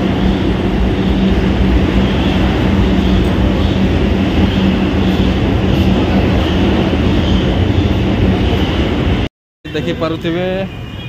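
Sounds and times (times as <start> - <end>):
train rumbling with hum: 0.0 - 11.0.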